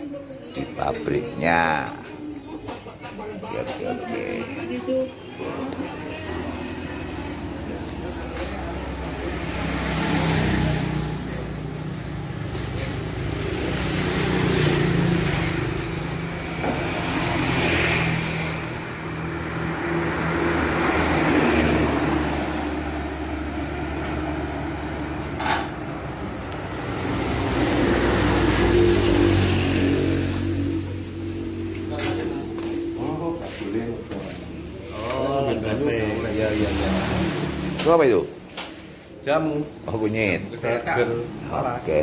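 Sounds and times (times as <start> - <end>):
motor vehicles passing: 0.0 - 42.0.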